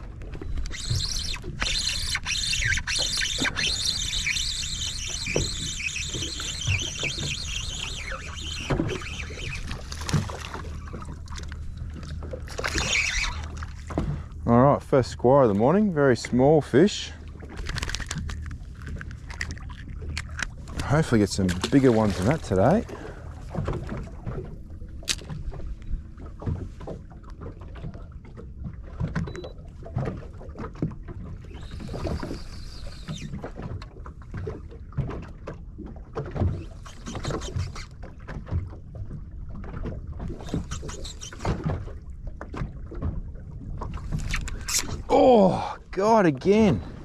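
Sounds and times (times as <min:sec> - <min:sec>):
water lapping against boat hull: 0:00.0 - 0:47.0.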